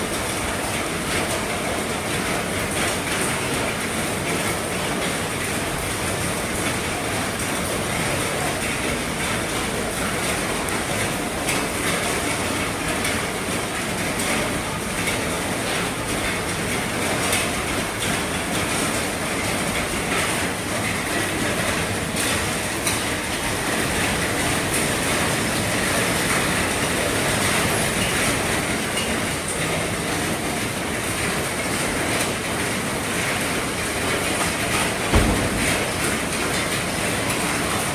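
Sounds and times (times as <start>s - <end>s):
heavy rain drumming on roof: 0.0s - 37.9s.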